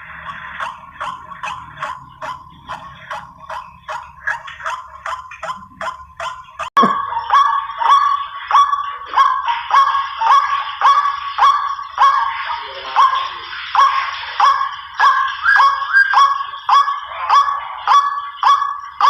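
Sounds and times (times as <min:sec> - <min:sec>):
waterhen calls: 0:00.0 - 0:19.0.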